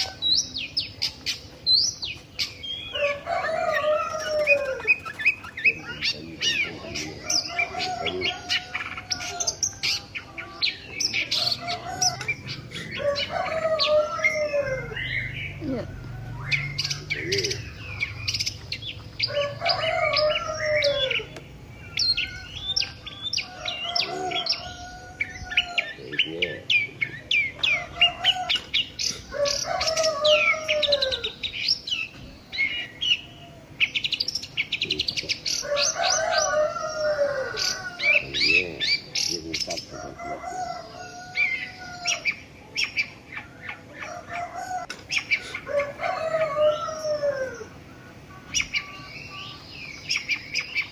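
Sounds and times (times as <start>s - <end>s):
small birds chirping rapidly: 0.0s - 50.9s.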